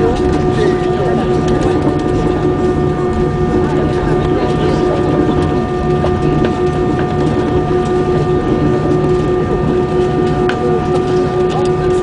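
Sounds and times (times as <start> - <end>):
jet engines hum in cabin: 0.0 - 12.0.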